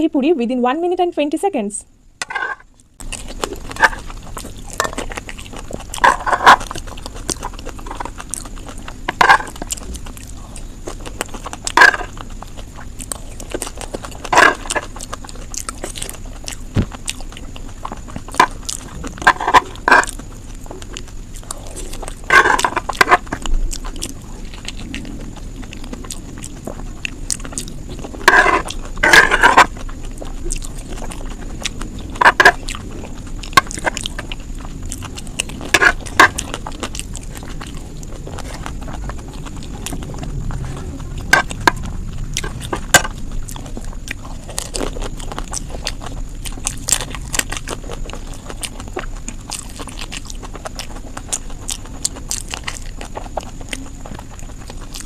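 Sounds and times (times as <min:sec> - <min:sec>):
steady low hum: 0:00.0 - 0:55.0
person biting and chewing crisp food: 0:02.2 - 0:55.0.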